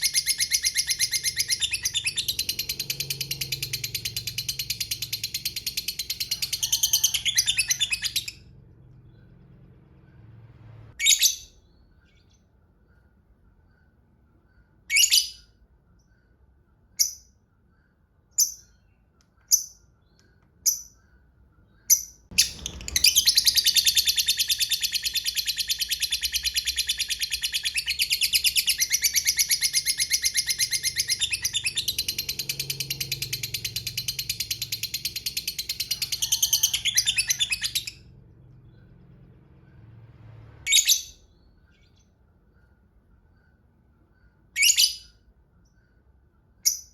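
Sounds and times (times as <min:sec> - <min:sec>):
lovebird chirping and trilling: 0:00.0 - 0:09.4, 0:10.9 - 0:13.0, 0:14.5 - 0:16.3, 0:16.9 - 0:39.0, 0:40.6 - 0:45.9, 0:46.6 - 0:46.9.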